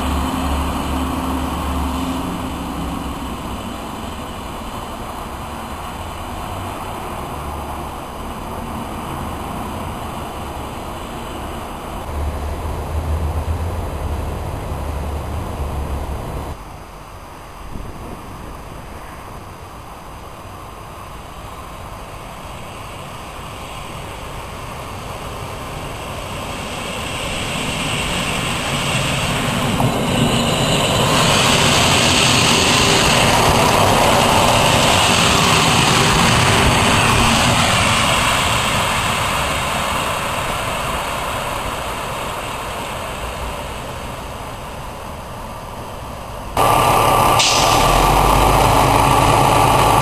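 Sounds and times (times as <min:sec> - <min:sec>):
diesel railcar passing: 0:00.0 - 0:50.0.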